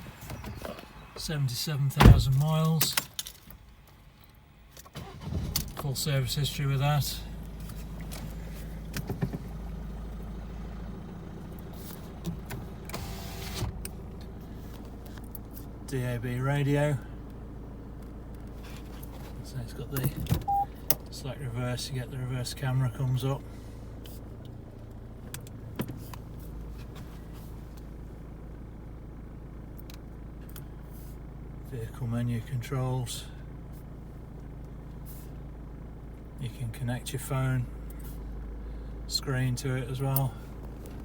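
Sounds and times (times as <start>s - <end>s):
diesel engine idling: 3.6s - 41.0s.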